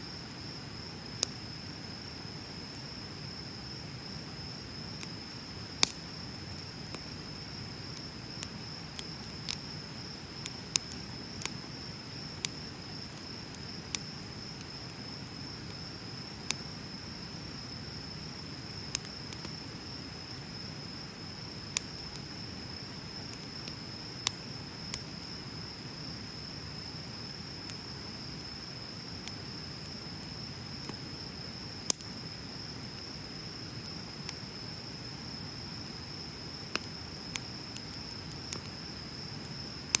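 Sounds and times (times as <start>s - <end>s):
crickets trilling: 0.0s - 40.0s
bonfire crackling and popping: 0.1s - 40.0s.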